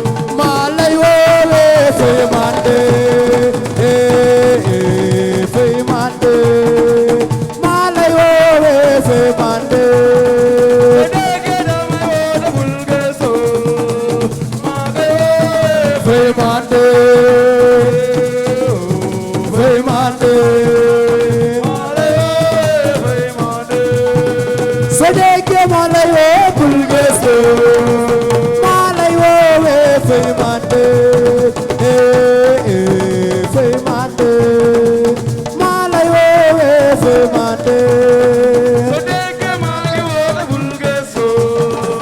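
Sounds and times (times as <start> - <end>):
hand drums and rattles: 0.0 - 42.0.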